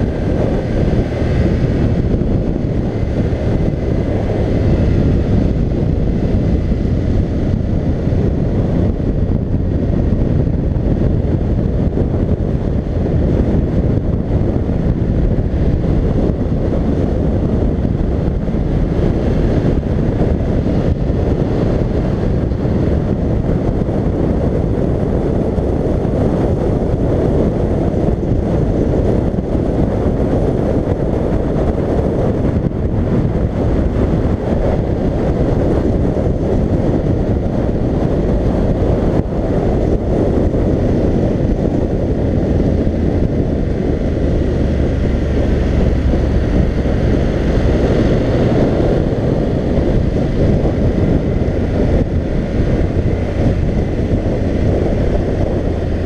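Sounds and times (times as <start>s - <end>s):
motorcycle engine and tyre rumble: 0.0s - 56.0s
wind buffeting a helmet camera: 0.0s - 56.0s.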